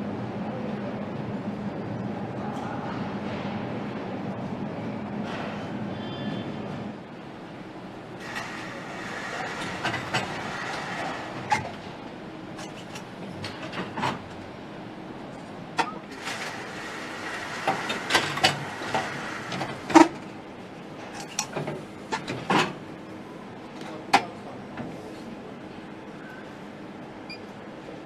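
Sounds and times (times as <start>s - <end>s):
faint machinery hum: 0.0s - 28.0s.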